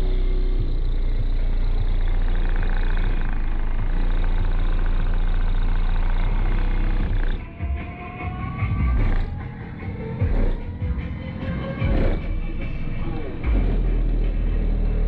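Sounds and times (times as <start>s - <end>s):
bass-heavy music through subwoofers: 0.0s - 15.0s.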